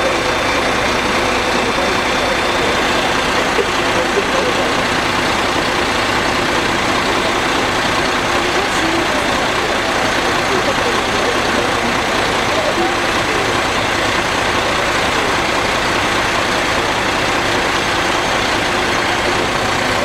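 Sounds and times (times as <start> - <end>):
fire truck engine running: 0.0 - 20.0.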